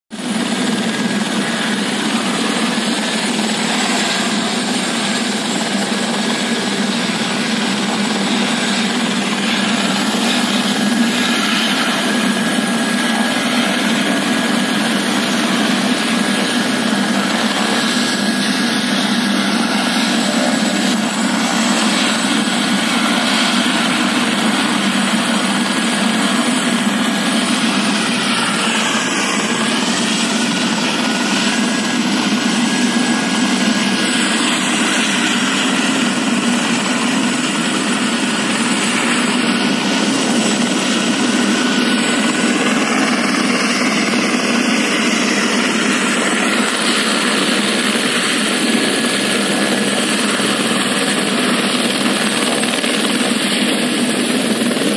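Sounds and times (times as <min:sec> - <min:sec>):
helicopter running: 0:00.1 - 0:54.9.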